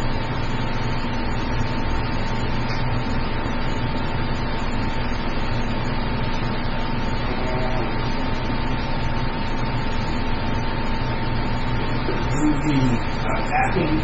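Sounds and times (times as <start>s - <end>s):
background hum and hiss: 0.0s - 14.0s
constant mid-pitched tone: 0.0s - 14.0s.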